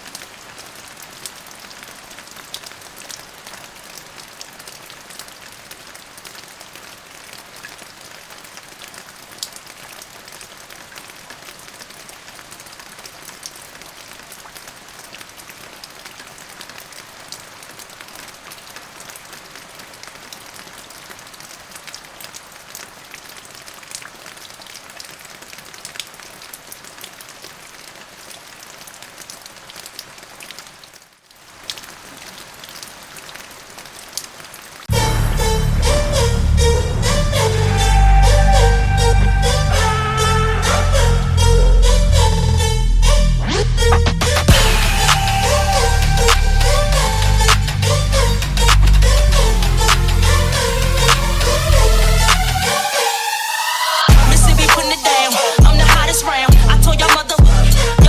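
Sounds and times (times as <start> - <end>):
rain falling: 0.0 - 41.4, 43.8 - 58.0.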